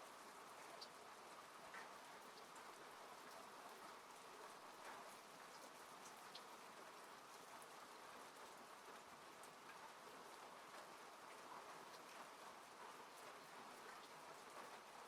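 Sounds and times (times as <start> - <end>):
rain falling on a car: 0.0 - 15.0.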